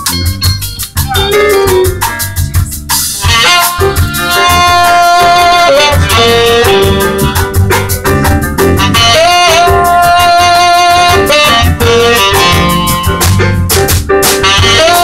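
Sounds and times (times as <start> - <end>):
drum kit: 0.0 - 15.0
saxophone melody: 0.0 - 15.0.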